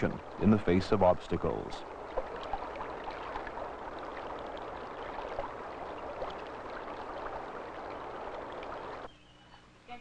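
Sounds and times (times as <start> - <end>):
stream water rushing: 0.0 - 9.1
water splashing and gurgling: 0.0 - 9.1.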